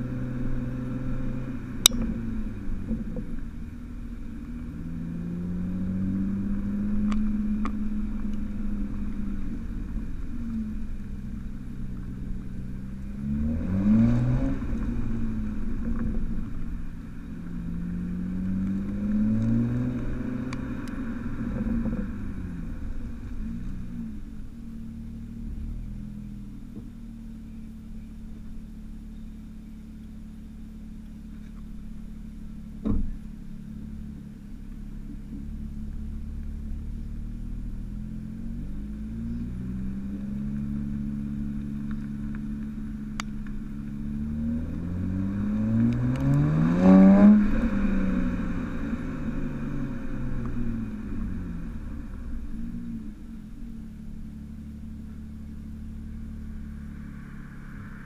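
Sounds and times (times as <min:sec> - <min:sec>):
car exhaust accelerating: 0:00.0 - 0:58.0.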